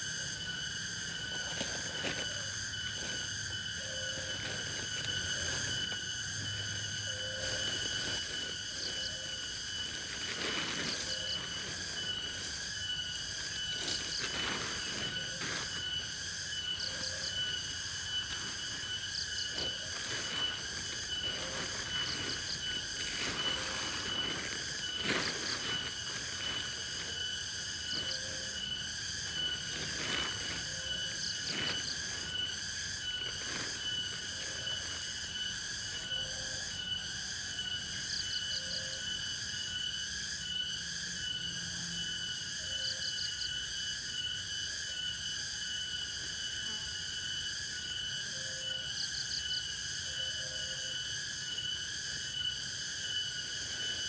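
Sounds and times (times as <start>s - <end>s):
frogs calling: 0.0s - 54.0s
insects trilling: 0.0s - 54.0s.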